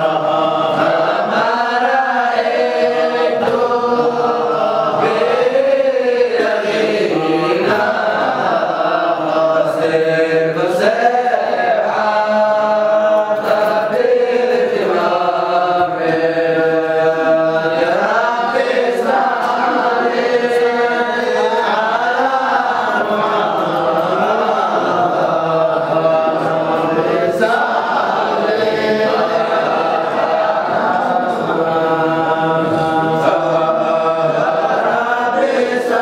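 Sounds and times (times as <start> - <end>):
men chanting together: 0.0 - 36.0.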